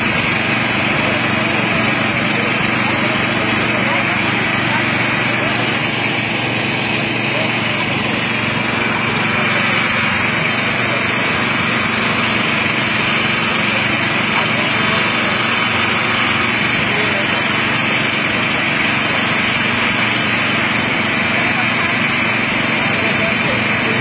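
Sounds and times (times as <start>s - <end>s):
people's voices: 0.0s - 24.0s
small engine running: 0.0s - 24.0s.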